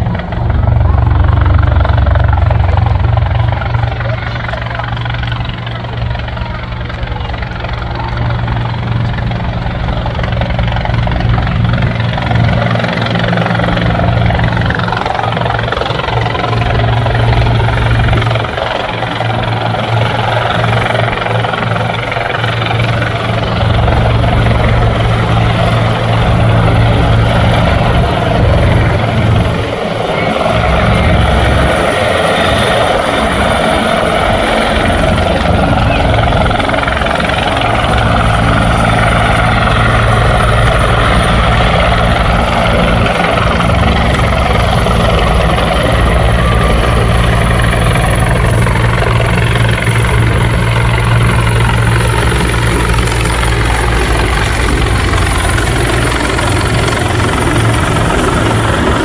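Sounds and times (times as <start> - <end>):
helicopter rotor beat: 0.0 - 59.0
high turbine whine: 0.0 - 59.0.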